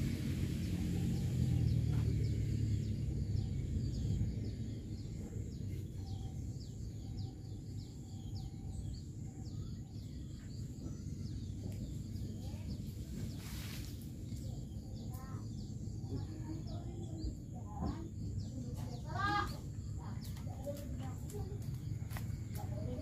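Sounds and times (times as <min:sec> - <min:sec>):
birds chirping: 0:00.0 - 0:23.0
low outdoor rumble: 0:00.0 - 0:23.0.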